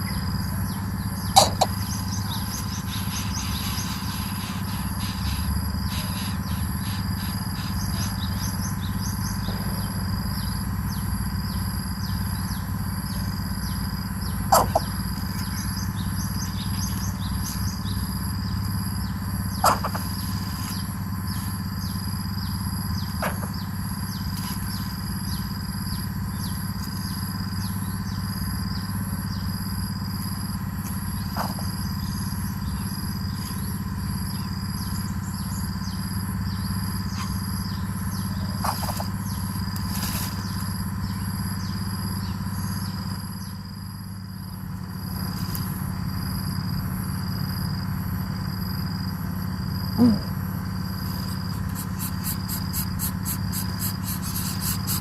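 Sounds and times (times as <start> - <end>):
insects droning: 0.0 - 55.0
low hum: 0.0 - 55.0.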